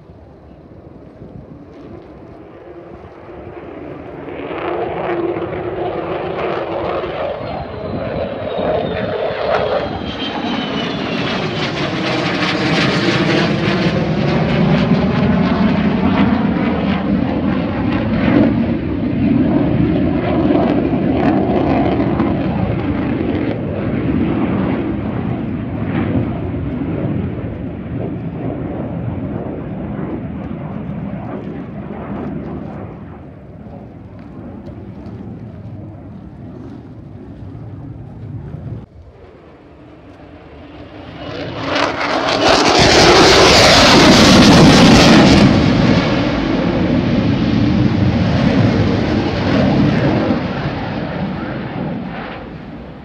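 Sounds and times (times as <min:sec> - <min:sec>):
fighter jet engine roar: 0:00.0 - 0:53.0
high jet whine: 0:00.0 - 0:53.0.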